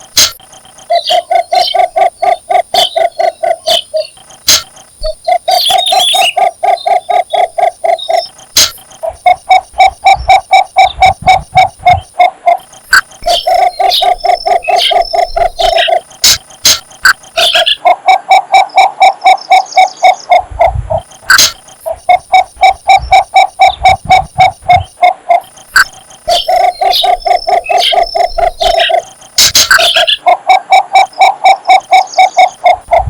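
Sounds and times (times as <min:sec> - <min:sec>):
bittern calling low notes: 0:00.0 - 0:33.0.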